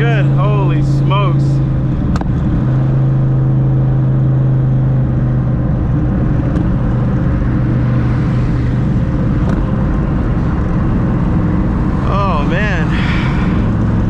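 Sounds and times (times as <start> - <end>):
car engine and exhaust droning: 0.0 - 14.0
road noise: 0.0 - 14.0.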